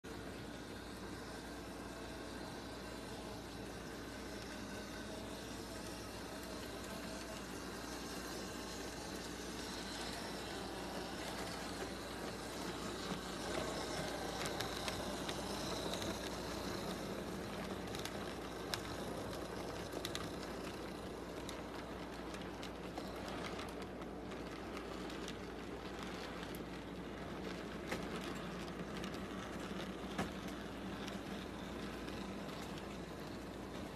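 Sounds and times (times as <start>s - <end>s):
wheels rolling on track: 0.0s - 33.9s
model train motor humming: 0.1s - 33.9s.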